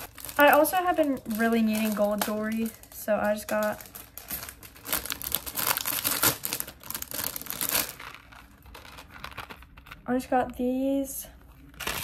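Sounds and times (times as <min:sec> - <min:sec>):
plastic packaging crinkling: 0:00.0 - 0:10.7, 0:11.6 - 0:12.0.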